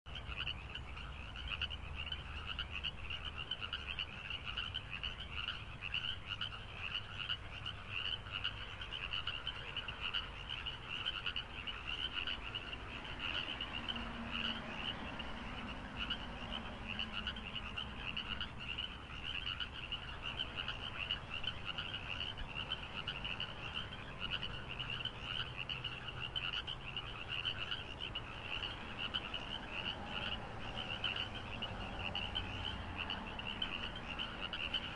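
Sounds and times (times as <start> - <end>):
frogs trilling in chorus: 0.1 - 34.9.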